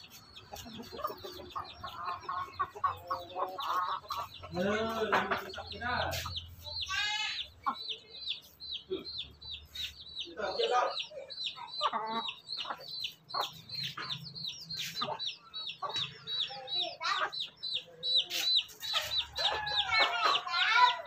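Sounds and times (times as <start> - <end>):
chicks peeping: 0.0 - 21.0
hen clucking: 0.0 - 21.0.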